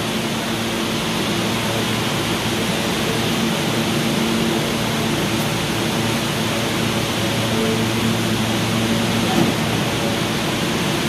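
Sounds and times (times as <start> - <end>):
subway train equipment humming: 0.0 - 11.0.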